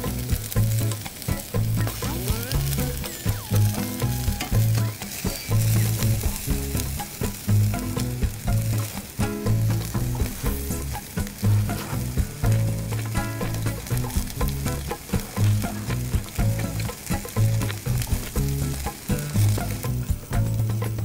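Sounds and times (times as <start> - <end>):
dripping fat popping: 0.0 - 20.6
skewers sizzling on a grill: 0.0 - 21.0.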